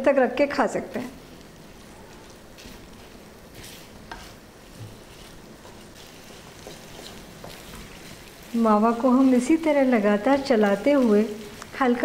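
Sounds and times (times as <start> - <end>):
quiet sizzle: 0.0 - 12.0
spatula scraping frying pan: 1.2 - 12.0.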